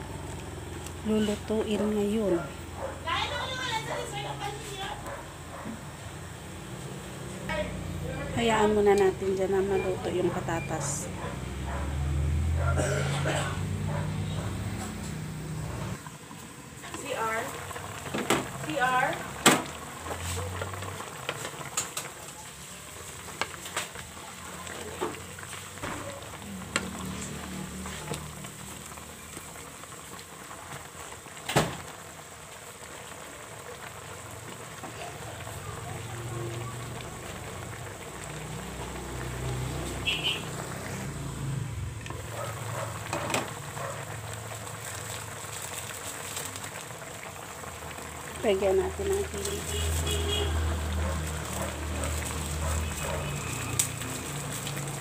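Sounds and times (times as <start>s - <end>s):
food bubbling and sizzling: 0.0s - 55.0s.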